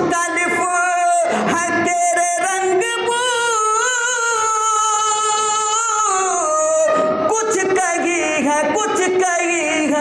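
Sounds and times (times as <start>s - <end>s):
man singing devotional song: 0.0s - 10.0s.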